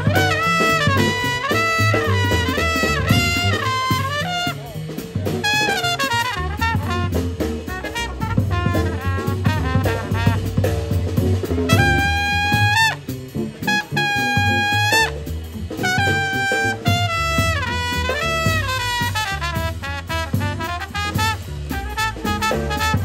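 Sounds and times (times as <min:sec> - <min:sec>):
drum kit: 0:00.0 - 0:23.0
trumpet: 0:00.0 - 0:23.0
upright bass: 0:00.0 - 0:23.0.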